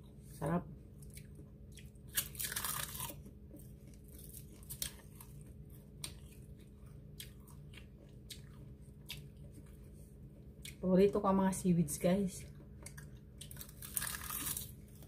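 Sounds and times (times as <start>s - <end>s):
crunchy seaweed being chewed: 1.0s - 10.8s, 12.5s - 15.0s.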